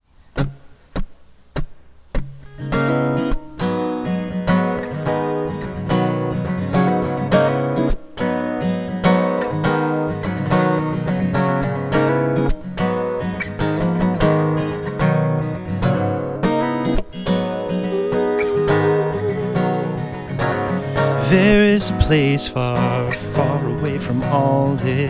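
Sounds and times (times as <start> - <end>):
acoustic guitar strumming chords: 0.4 - 25.0.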